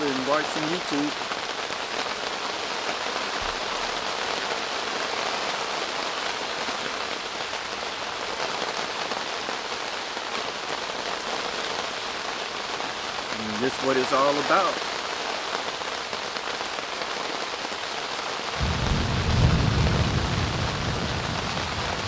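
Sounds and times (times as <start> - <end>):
rain on a tent: 0.0 - 22.0.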